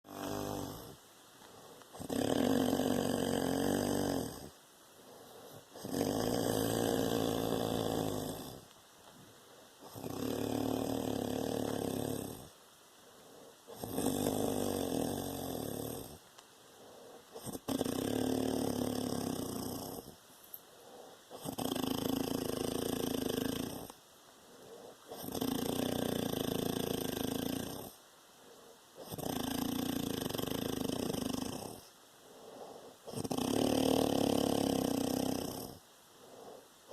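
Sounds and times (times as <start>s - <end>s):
man snoring: 0.0s - 1.0s, 1.6s - 8.7s, 9.8s - 12.6s, 13.2s - 16.2s, 16.8s - 36.9s
quiet breathing: 0.0s - 36.9s.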